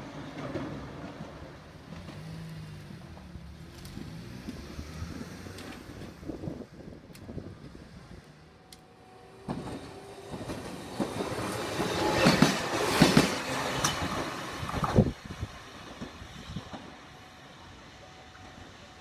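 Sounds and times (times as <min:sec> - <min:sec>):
train passing close by: 0:00.0 - 0:19.0.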